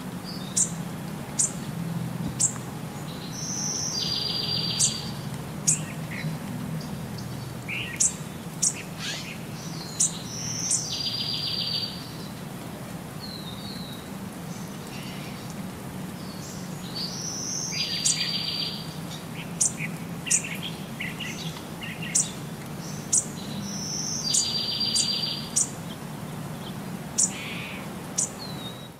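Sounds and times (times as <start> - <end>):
small birds chirping: 0.2 - 12.4, 13.2 - 28.9.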